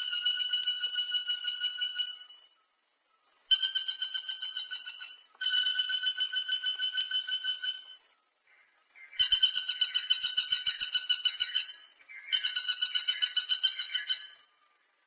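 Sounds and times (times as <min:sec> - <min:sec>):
woodpecker calling: 0:00.0 - 0:02.6, 0:03.4 - 0:15.0.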